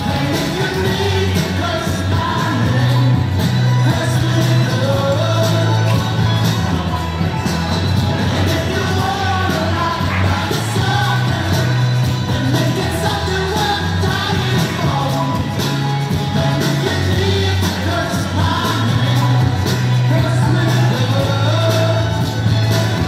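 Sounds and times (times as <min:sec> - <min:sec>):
song with sung vocal: 0:00.0 - 0:23.0.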